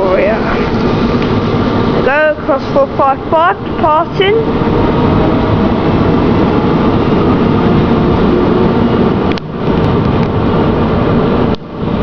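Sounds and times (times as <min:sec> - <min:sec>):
electric train rail rumble: 0:00.0 - 0:12.0.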